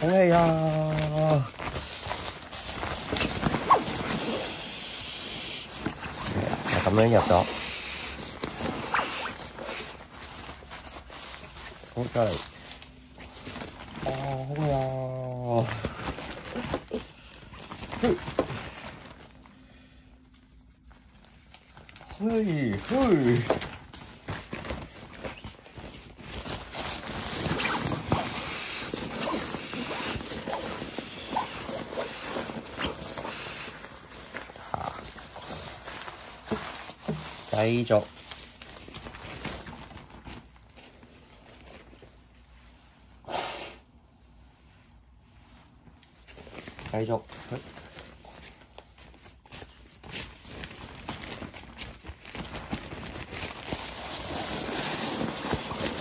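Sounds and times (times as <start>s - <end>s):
nylon sack rustling and crinkling: 0.0s - 43.0s, 44.4s - 56.0s.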